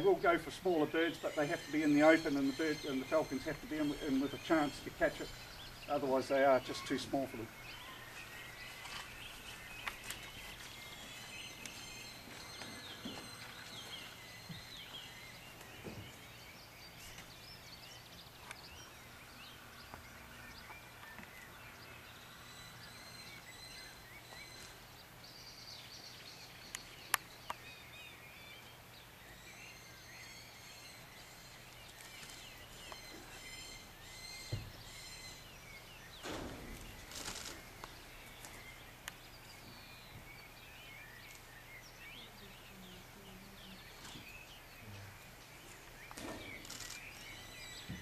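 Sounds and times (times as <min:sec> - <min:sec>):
birds chirping and whistling: 0:00.0 - 0:48.0.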